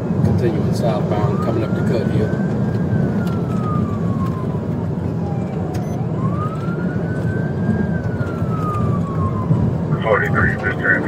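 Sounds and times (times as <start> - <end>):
car road and engine noise: 0.0 - 11.0
police siren wailing: 0.0 - 11.0.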